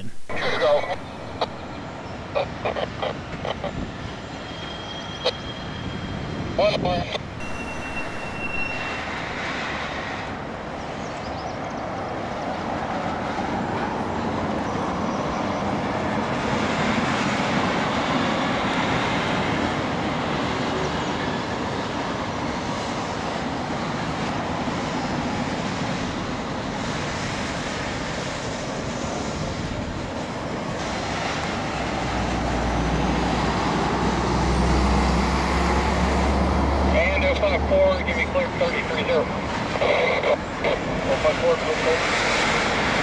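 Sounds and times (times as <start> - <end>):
train rumbling on rails: 0.0 - 43.0.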